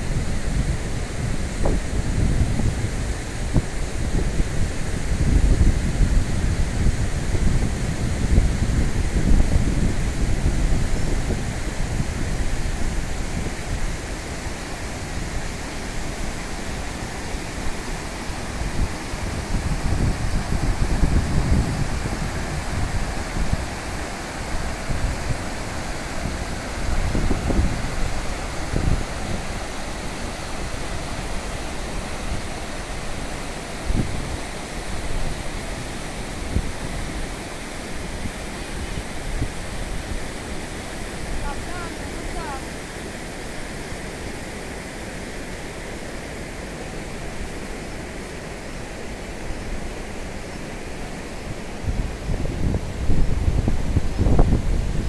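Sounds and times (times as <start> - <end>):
wind rumble on microphone: 0.0 - 42.7, 49.1 - 55.0
river rushing over rocks: 0.0 - 55.0.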